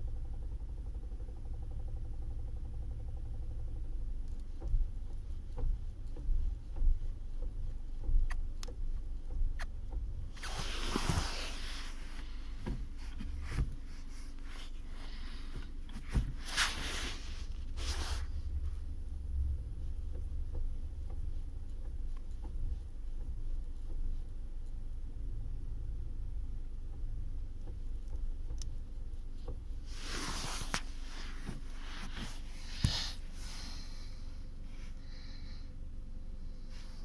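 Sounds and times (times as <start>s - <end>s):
car engine low rumble: 0.0s - 37.0s.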